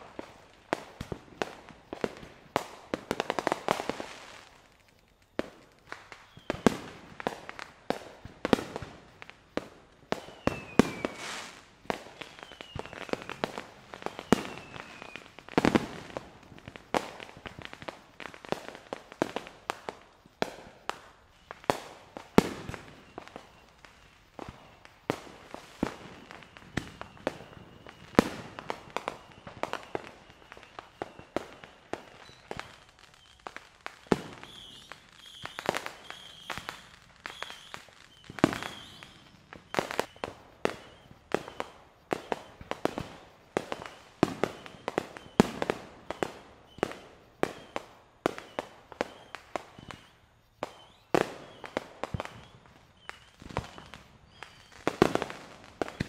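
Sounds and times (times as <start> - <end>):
fireworks bangs and pops: 0.0 - 56.0.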